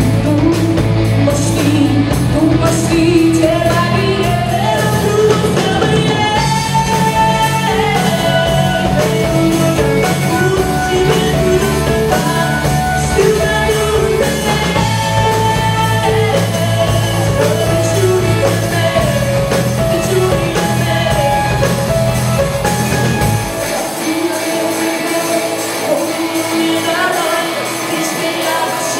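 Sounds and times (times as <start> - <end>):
bass guitar: 0.0 - 28.9
drums: 0.0 - 28.9
electric guitar: 0.0 - 28.9
keyboard: 0.0 - 28.9
woman singing: 0.0 - 28.9.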